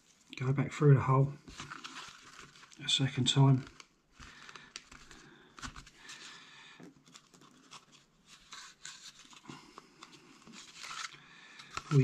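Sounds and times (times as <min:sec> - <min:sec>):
scratching and rustling of raffia: 0:01.4 - 0:06.4, 0:07.0 - 0:12.0.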